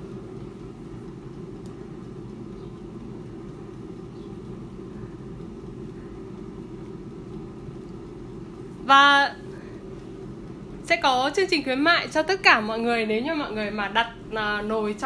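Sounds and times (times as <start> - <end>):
air fryer fan hum: 0.0 - 15.0.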